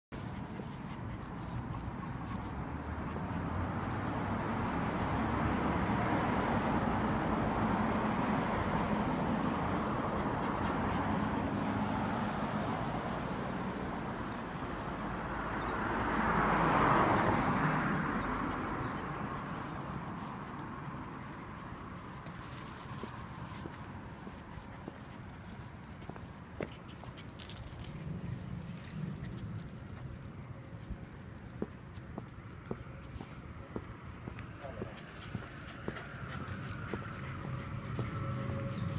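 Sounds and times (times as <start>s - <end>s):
cars passing on street: 0.1s - 38.9s.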